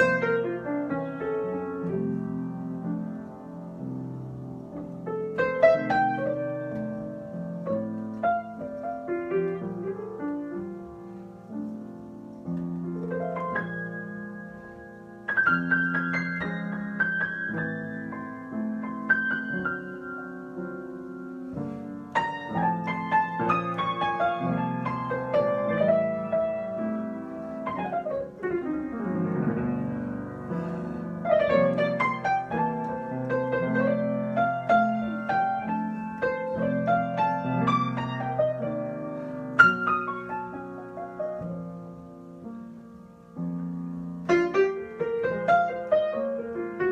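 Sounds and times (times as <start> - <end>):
solo piano improvisation: 0.0 - 46.9.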